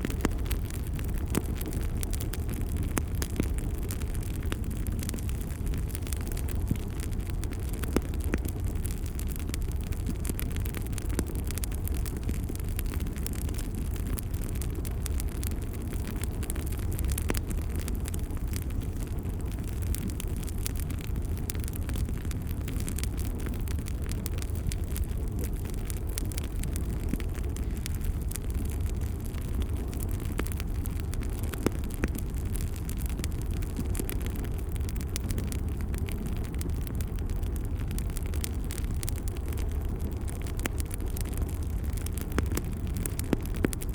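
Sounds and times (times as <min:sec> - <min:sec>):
fire crackles and pops: 0:00.0 - 0:43.9
low rumble of fire flames: 0:00.0 - 0:43.9.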